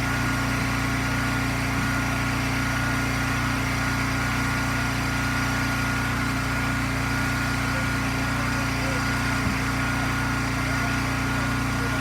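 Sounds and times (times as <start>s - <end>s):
gas engine running: 0.0s - 12.0s.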